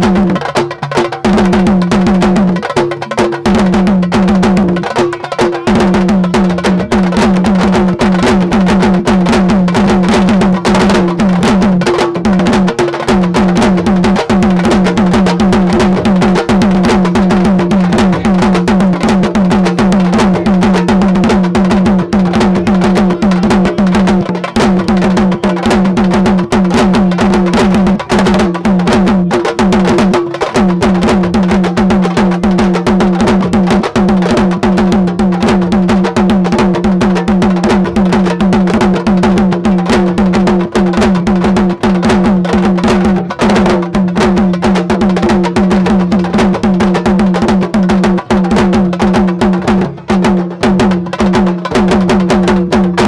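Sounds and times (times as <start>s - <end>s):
hand drums fast rhythm: 0.0s - 53.0s.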